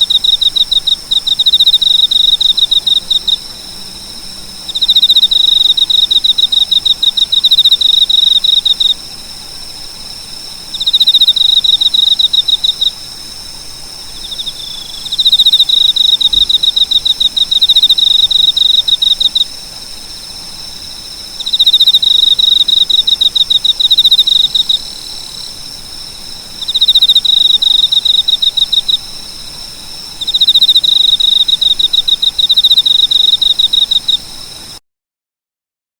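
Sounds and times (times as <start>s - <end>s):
faint high-pitched hum: 0.0s - 34.7s
cricket chirping: 0.0s - 34.8s.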